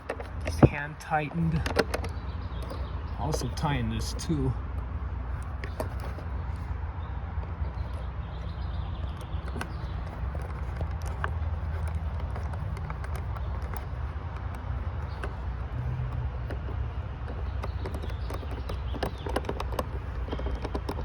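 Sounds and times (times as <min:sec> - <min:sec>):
clicks of plastic parts handled: 0:00.0 - 0:04.4, 0:05.3 - 0:06.7, 0:07.4 - 0:21.0.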